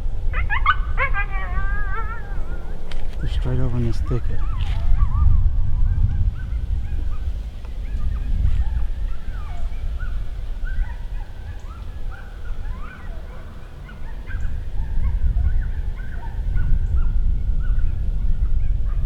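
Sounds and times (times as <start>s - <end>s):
coyotes yipping and howling: 0.0s - 19.0s
wind rumble on microphone: 0.0s - 19.0s.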